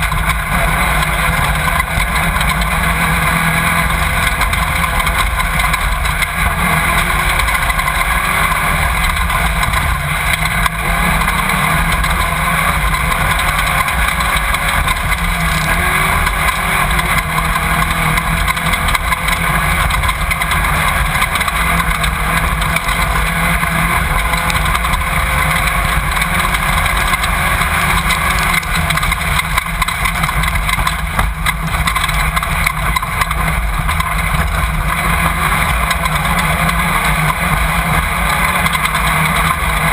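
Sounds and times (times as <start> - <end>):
race car engine running hard: 0.0 - 39.9
rough terrain noise: 0.0 - 39.9.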